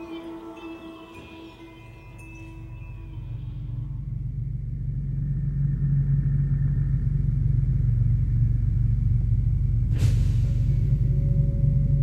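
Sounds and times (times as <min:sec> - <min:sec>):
low steady rumble: 0:01.3 - 0:12.0.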